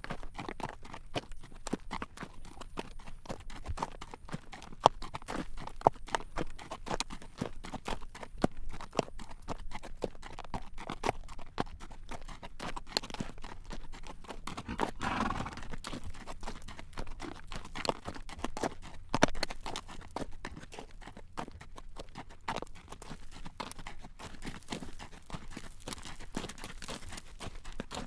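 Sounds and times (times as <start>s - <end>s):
hooves clip-clopping on road: 0.0s - 28.0s.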